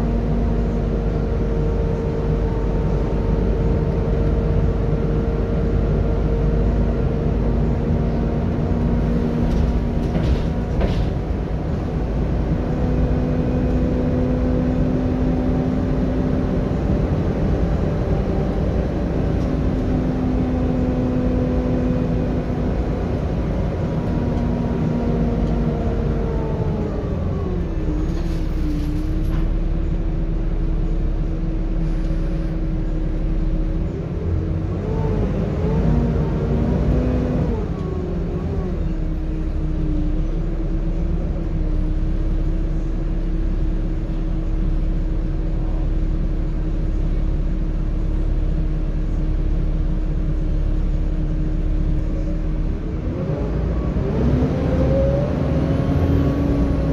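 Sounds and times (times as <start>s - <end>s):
bus engine rumble: 0.0s - 56.9s
engine and fan whine: 0.0s - 56.9s.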